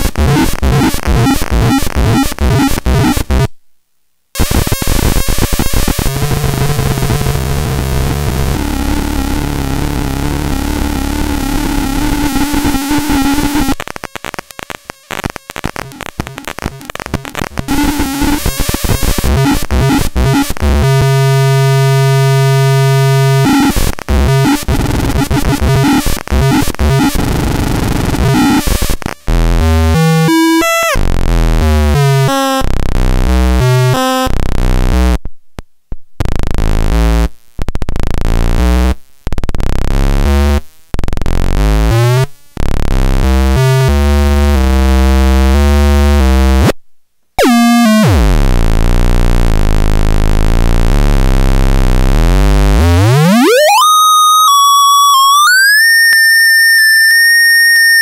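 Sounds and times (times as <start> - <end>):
buzzing static: 0.0 - 3.6, 4.3 - 35.3, 36.2 - 46.8, 47.4 - 58.0.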